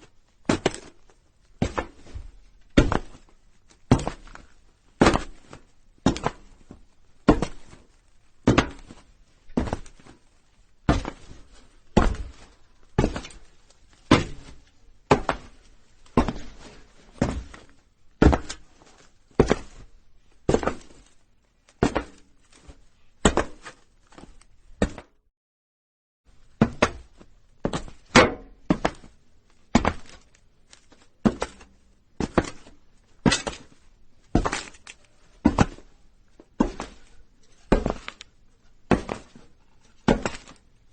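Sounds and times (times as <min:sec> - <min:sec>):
footsteps on a roof: 0:00.1 - 0:25.2, 0:26.3 - 0:40.9.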